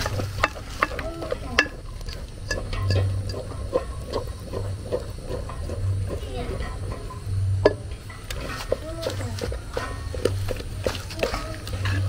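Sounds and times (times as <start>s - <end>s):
stirring thick food in pot: 0.0s - 12.0s
utensil knocking against pot: 0.0s - 12.0s.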